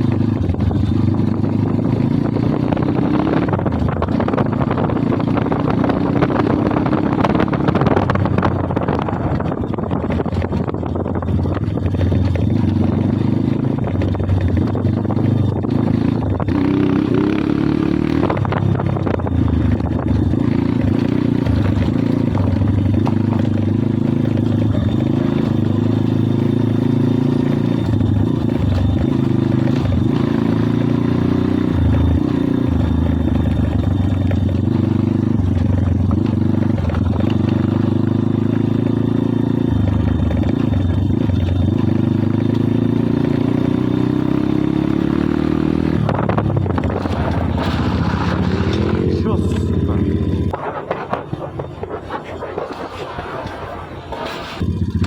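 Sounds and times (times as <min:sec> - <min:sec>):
pit bike engine running: 0:00.0 - 0:55.0.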